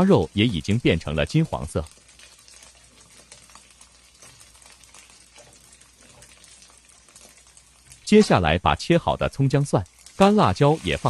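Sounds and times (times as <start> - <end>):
meat sizzling with crackles: 0.0 - 11.0.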